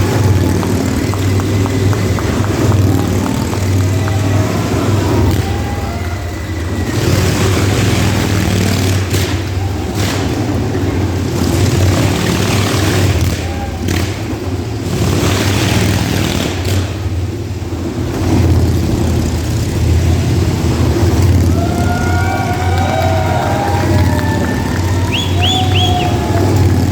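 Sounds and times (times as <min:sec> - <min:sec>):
motorcycle engines revving: 0:00.0 - 0:26.9.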